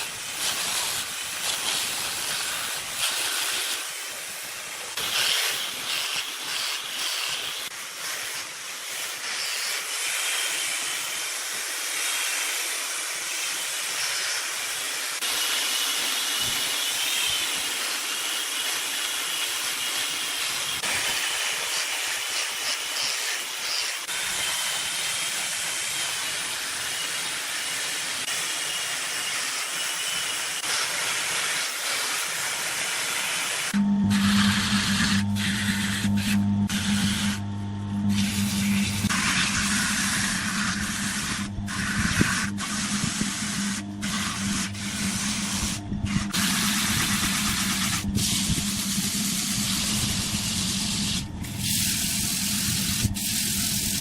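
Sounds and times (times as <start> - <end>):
wood lathe cutting hiss: 0.0 - 54.0.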